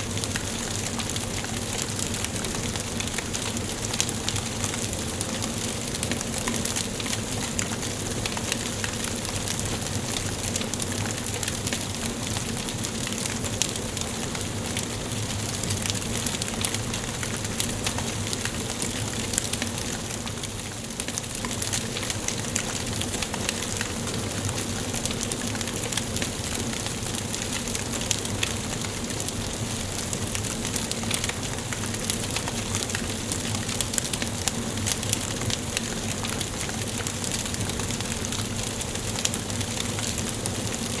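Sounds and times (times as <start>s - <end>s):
burning logs crackling and popping: 0.0s - 41.0s
wood fire hissing: 0.0s - 41.0s.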